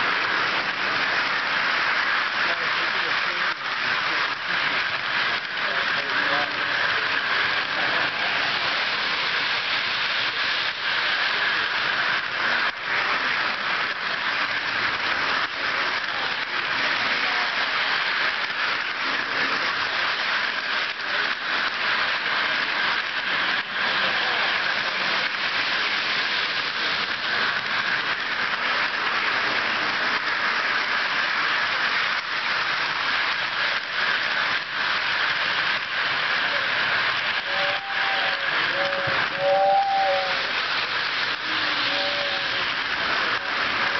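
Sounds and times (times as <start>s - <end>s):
model train rolling rattle: 0.0s - 43.9s
wheels clicking over track: 0.0s - 43.9s.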